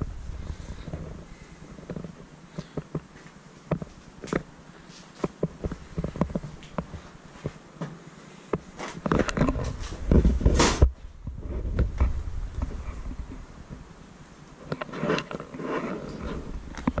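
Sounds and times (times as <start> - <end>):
low rumbling and rustling: 0.0 - 17.0.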